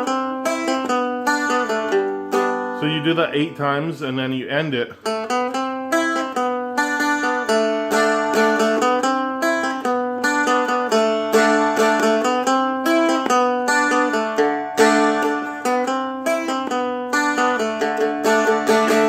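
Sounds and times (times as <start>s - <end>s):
strummed fretted dulcimer: 0.0s - 19.0s.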